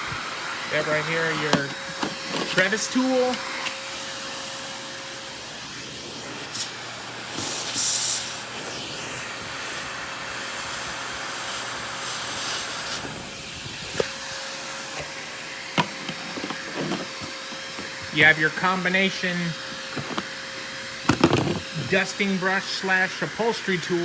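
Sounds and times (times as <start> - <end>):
vacuum cleaner suction: 0.0 - 24.0.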